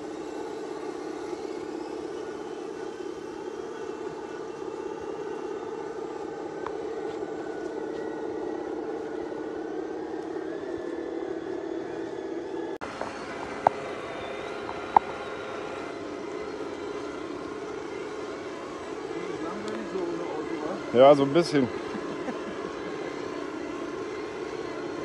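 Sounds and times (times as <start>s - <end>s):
rc crawler motor and gear whine: 0.0s - 25.0s.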